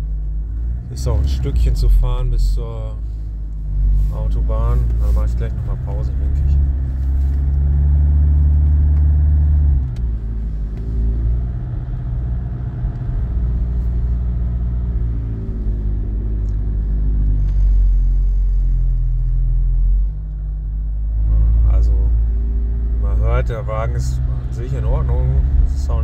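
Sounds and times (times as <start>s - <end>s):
diesel engine drone from cabin: 0.0s - 26.0s.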